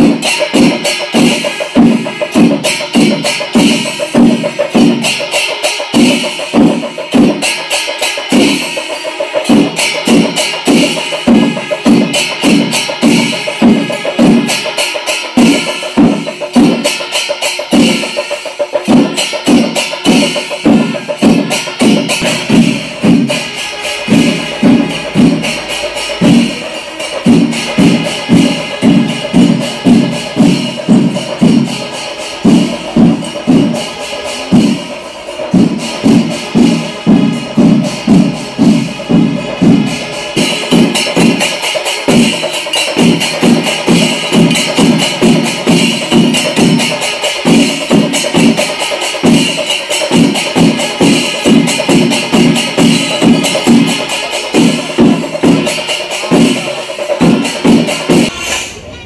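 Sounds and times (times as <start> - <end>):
music with pounding drum beat: 0.0 - 58.7
jingling percussion: 0.0 - 59.0.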